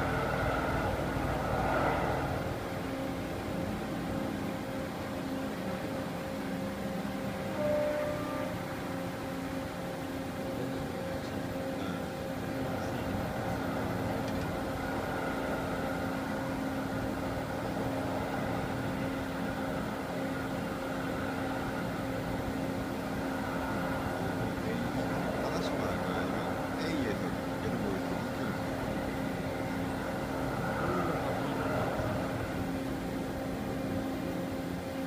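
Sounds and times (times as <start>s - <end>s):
milling machine humming: 0.0s - 35.0s.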